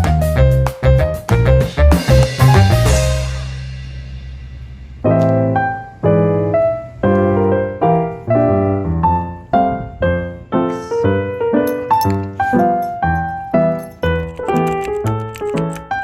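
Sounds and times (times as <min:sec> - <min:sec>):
piano chords: 0:01.5 - 0:16.0.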